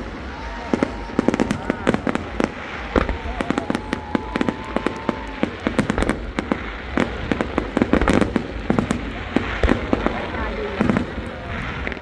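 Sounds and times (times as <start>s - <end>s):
firework whistling: 0.0s - 12.0s
fireworks bangs and crackles: 0.0s - 12.0s.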